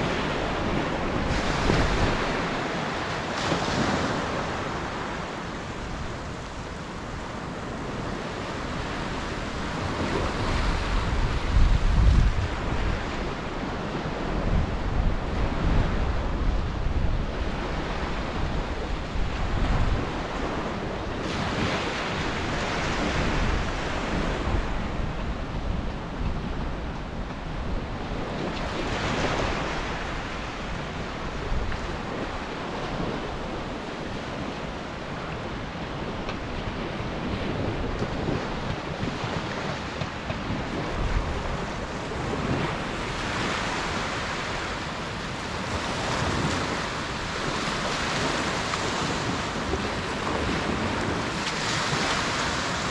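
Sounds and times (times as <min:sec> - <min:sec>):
surf breaking on a beach: 0:00.0 - 0:52.9
wind rumbling on microphone: 0:00.0 - 0:52.9.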